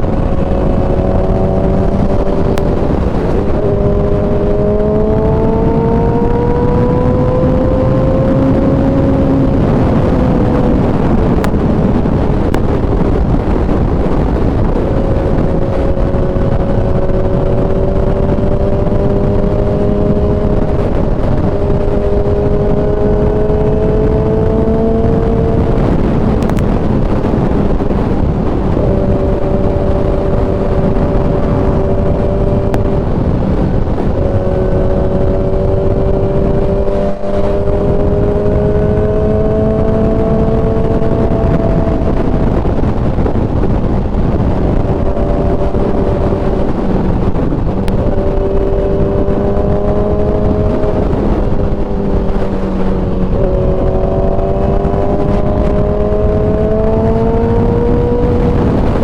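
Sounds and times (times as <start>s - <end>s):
loud rushing noise: 0.0s - 59.0s
motorcycle engine running: 0.0s - 59.0s.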